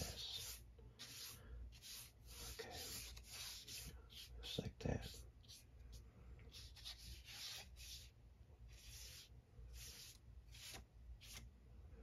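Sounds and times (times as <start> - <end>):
brush swishing on paper: 0.0 - 11.5.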